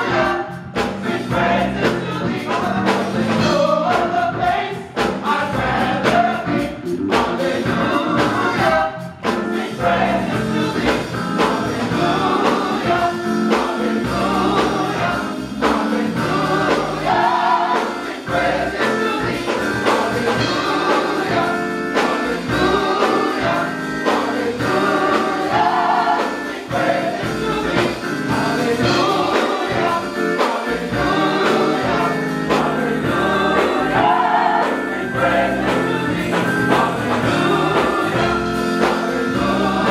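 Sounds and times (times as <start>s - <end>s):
gospel choir singing: 0.0s - 39.9s
instrumental accompaniment with bass: 0.0s - 39.9s.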